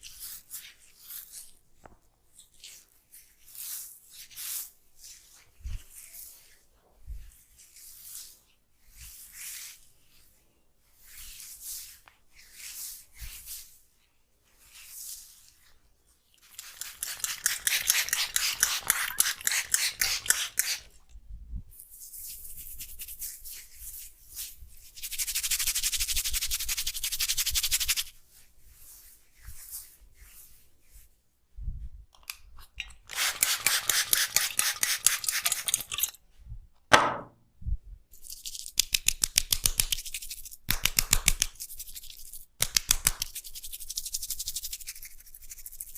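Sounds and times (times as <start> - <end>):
hands rubbing hair and scalp: 0.0 - 10.4, 11.0 - 13.8, 14.4 - 21.0, 21.7 - 31.2, 32.4 - 36.0, 38.1 - 45.9.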